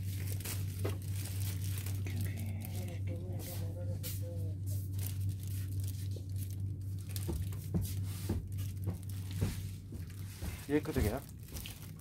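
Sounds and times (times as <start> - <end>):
low hum: 0.0 - 10.4
plastic bag rustling: 0.0 - 12.0.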